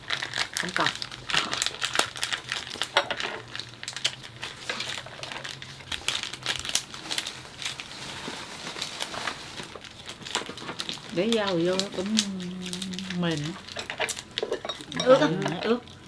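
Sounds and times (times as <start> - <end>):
crinkling and crackling: 0.0 - 16.0.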